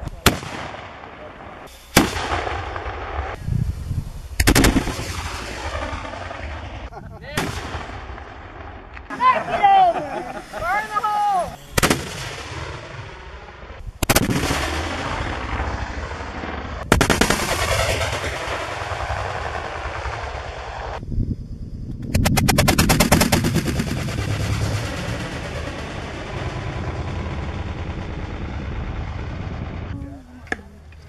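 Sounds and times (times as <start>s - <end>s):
cannons firing: 0.0s - 3.4s, 4.4s - 20.9s, 22.2s - 29.8s
long rolling rumble: 0.4s - 31.0s.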